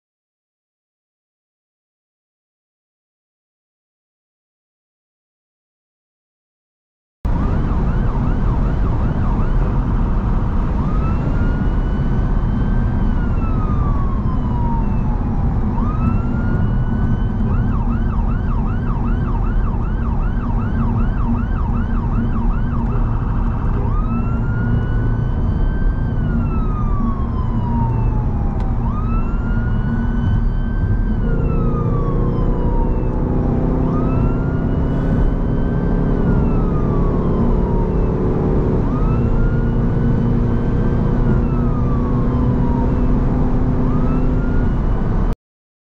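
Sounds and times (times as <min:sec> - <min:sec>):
siren wailing and yelping: 0:07.3 - 0:45.1
car engine and road noise: 0:07.3 - 0:45.4.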